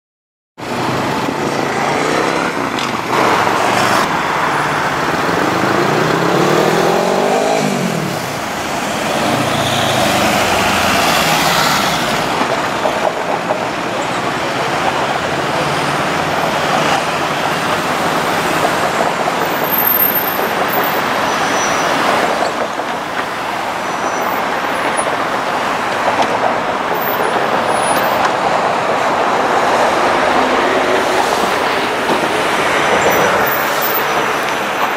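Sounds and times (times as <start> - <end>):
cars and buses passing: 0.6 - 34.9.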